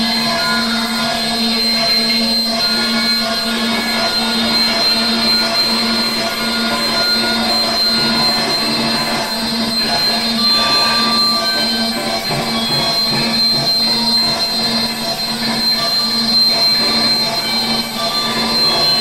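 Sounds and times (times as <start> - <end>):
electric guitar noise drone: 0.0 - 19.0
high whistling tone: 0.0 - 19.0.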